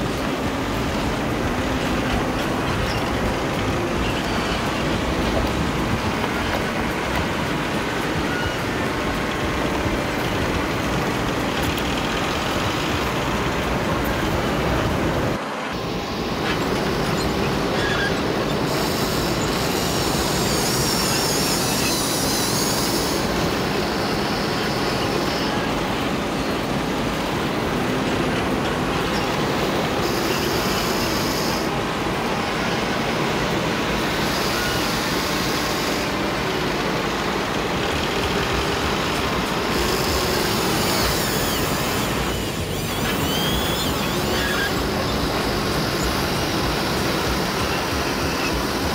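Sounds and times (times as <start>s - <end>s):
high whine of electric motors: 0.0s - 48.9s
wind: 0.0s - 48.9s.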